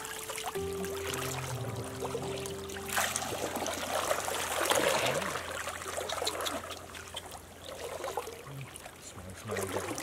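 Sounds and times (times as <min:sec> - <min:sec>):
stream water splashing: 0:00.0 - 0:10.0.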